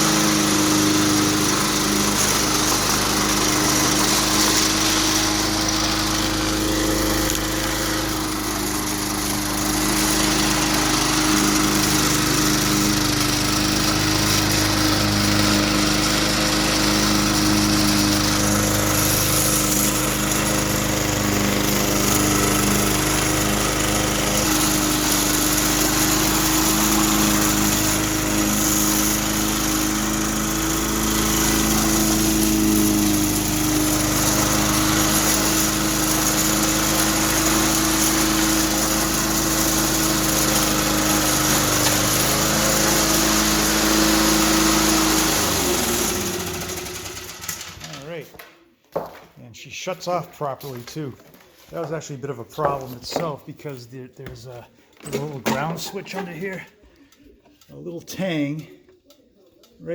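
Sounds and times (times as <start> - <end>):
lawn mower engine running: 0.0 - 48.4.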